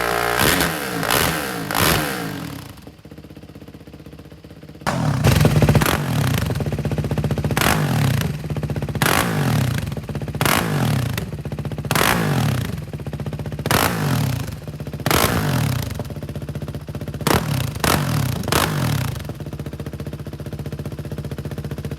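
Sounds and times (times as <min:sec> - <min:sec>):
motorcycle engine revving: 0:00.0 - 0:03.3, 0:04.8 - 0:21.9.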